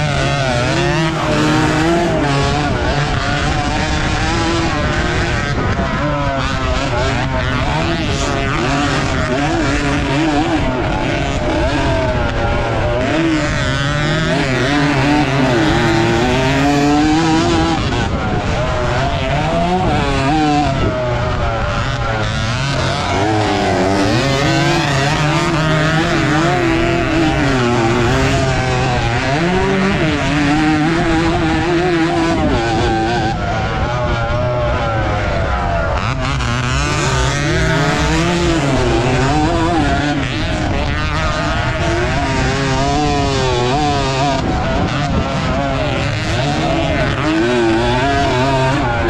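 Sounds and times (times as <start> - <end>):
motorcycle engine revving: 0.0 - 49.0
rush of wind and dirt: 0.0 - 49.0.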